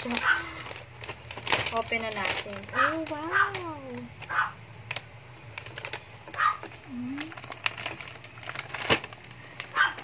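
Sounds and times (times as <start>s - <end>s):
plastic bag rustling and crinkling: 0.0s - 10.0s.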